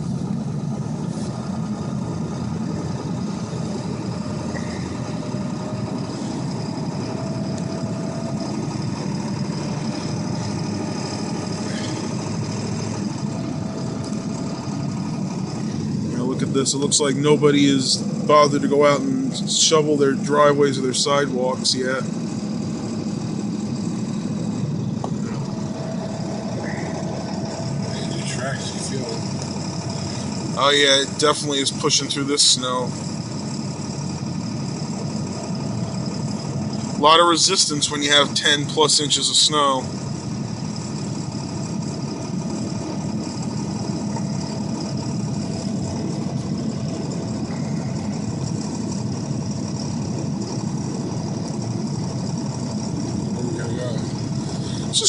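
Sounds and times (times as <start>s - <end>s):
truck engine pushing through snow: 0.0s - 55.0s.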